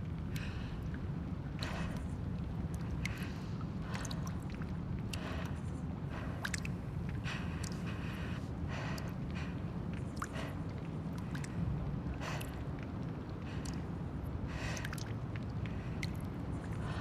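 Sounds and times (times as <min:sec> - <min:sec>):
sharp ticks and drips: 0:00.0 - 0:17.0
steady low rumble: 0:00.0 - 0:17.0.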